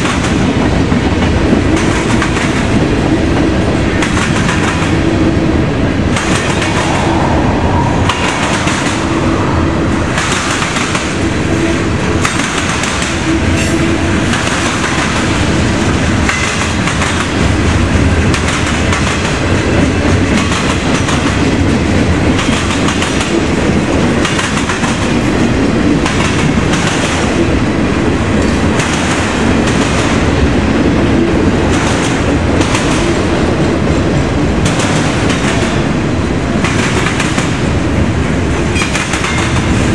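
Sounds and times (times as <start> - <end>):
train wheels clattering over crossing: 0.0 - 5.2, 10.0 - 27.7, 28.3 - 30.6, 31.5 - 36.0, 36.6 - 39.9
freight train rumble: 0.0 - 39.9.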